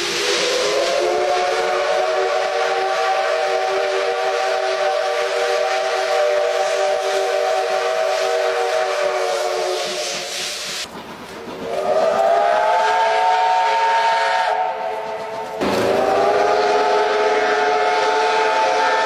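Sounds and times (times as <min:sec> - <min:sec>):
steam locomotive whistle: 0:00.0 - 0:10.7, 0:11.7 - 0:19.0
hiss of steam: 0:00.0 - 0:19.0.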